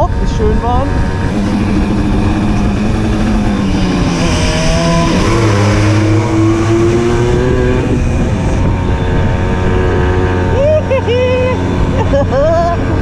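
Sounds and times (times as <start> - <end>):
moped two-stroke engine accelerating: 0.0 - 13.0.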